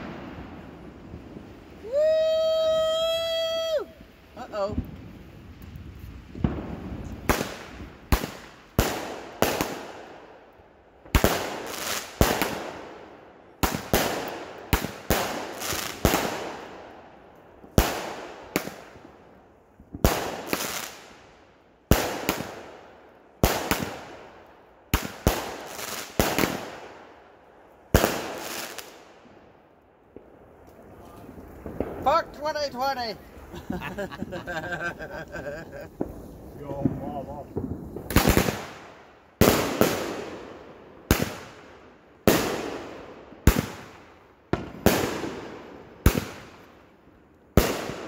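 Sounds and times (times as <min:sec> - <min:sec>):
fireworks bursting with sharp bangs: 0:00.0 - 0:48.0.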